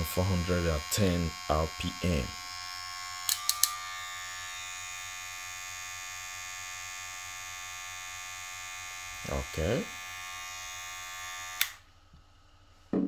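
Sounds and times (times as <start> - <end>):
hair clipper buzzing: 0.0 - 11.8.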